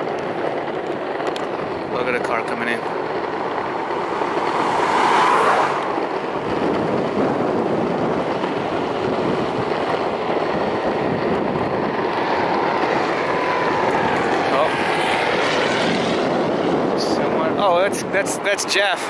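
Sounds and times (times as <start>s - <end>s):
skateboard wheels on rough asphalt: 0.0s - 19.0s
wind on microphone: 0.0s - 19.0s
car passing: 0.5s - 17.6s.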